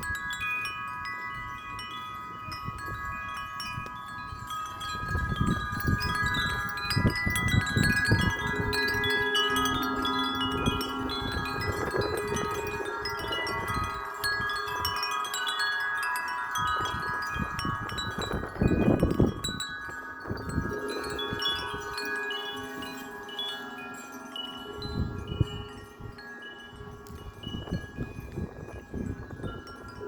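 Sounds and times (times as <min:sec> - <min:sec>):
wind chimes ringing: 0:00.0 - 0:30.0
wind rumbling on microphone: 0:00.0 - 0:30.0.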